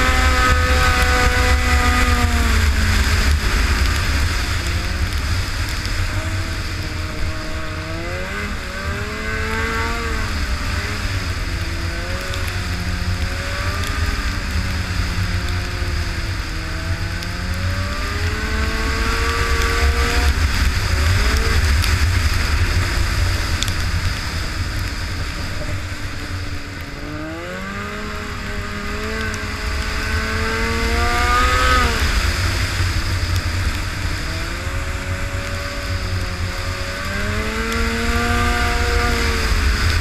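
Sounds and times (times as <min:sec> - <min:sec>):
snowmobile engine running: 0:00.0 - 0:40.0
wind rumble on microphone: 0:00.0 - 0:40.0.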